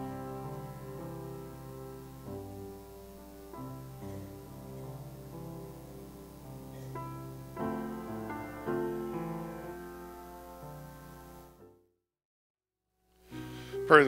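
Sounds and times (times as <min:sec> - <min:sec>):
grand piano chords: 0:00.0 - 0:11.9.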